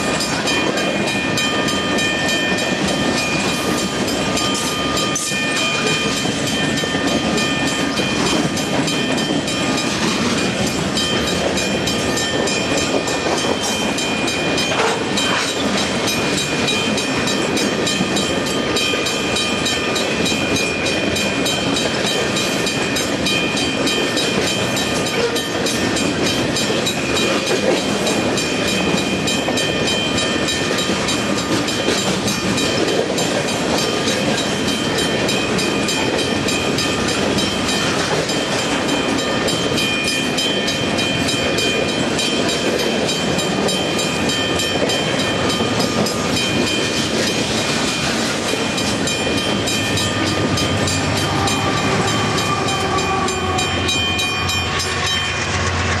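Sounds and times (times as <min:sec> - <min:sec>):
train wheels clicking over rails: 0:00.0 - 0:56.0.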